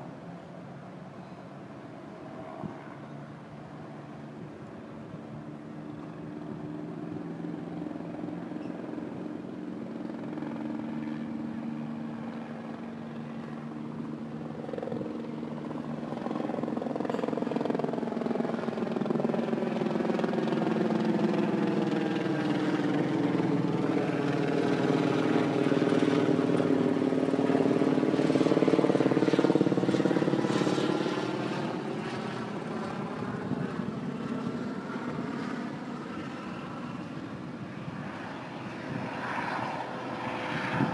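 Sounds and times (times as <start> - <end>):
helicopter flying past: 0.0 - 40.9.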